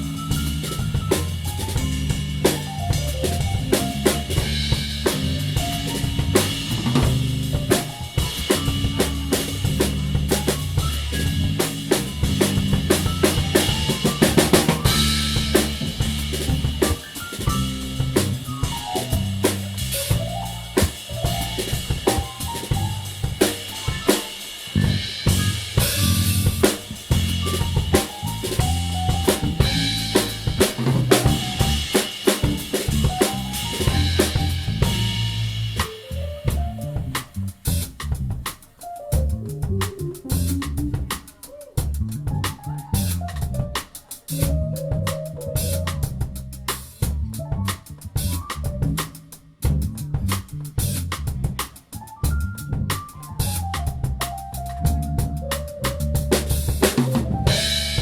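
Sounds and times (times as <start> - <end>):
snare and bass drum hits: 0.0 - 38.6, 42.4 - 58.0
live band playing: 0.0 - 58.0.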